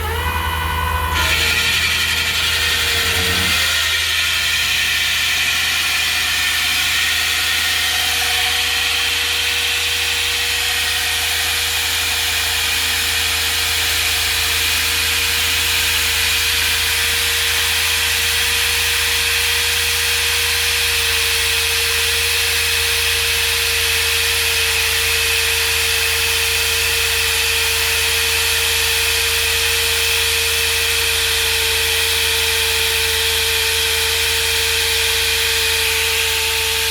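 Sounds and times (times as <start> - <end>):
core drill droning and whining: 0.0 - 36.9.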